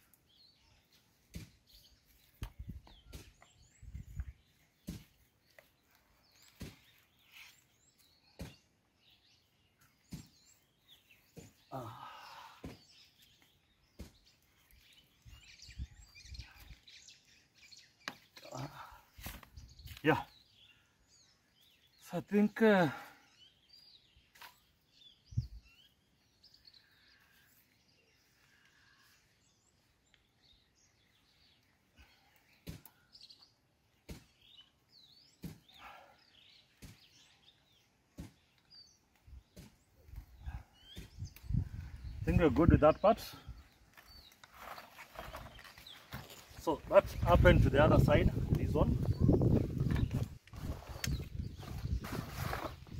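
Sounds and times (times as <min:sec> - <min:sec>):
faint birds chirping: 0:00.0 - 0:52.9.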